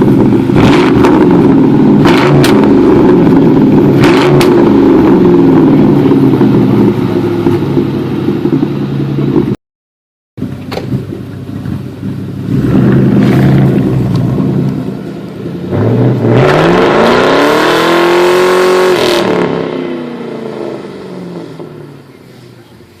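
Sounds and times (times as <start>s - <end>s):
loud car engine accelerating: 0.0s - 9.6s, 10.4s - 23.0s.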